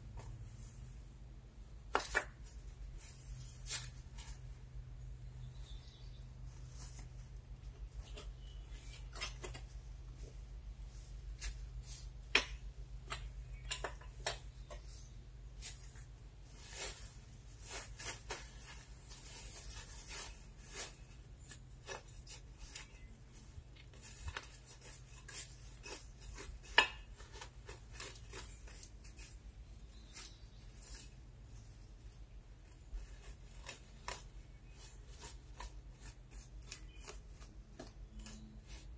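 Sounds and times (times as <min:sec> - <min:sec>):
hands scraping soil and bricks: 0:00.0 - 0:38.9.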